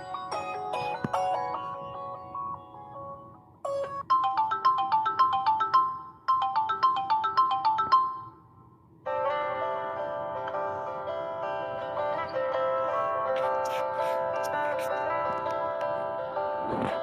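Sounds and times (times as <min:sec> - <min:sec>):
phone ringtone melody: 0:00.0 - 0:08.5, 0:09.1 - 0:17.0.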